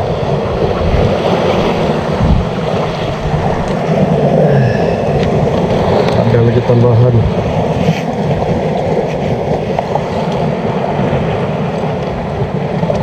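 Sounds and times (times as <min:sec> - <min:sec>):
sea on rocky shore: 0:00.0 - 0:13.0
wind: 0:00.0 - 0:13.0.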